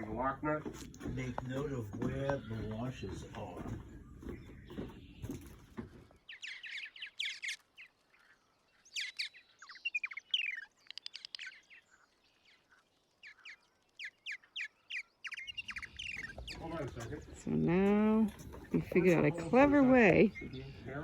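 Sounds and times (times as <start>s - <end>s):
small bird chirping: 0.0s - 21.0s.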